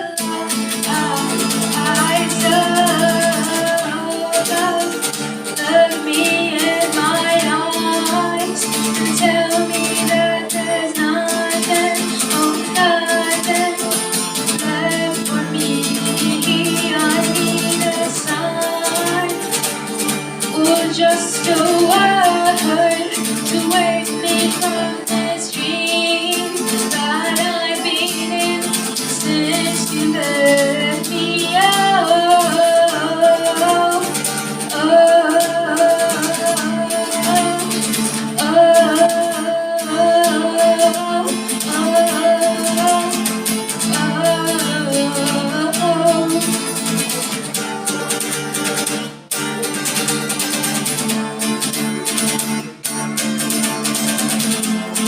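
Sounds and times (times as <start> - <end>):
guitar playing: 0.0 - 55.0.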